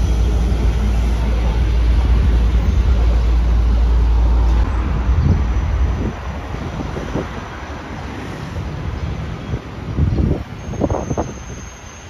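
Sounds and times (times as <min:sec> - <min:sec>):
highway traffic streaming past: 0:00.0 - 0:12.0.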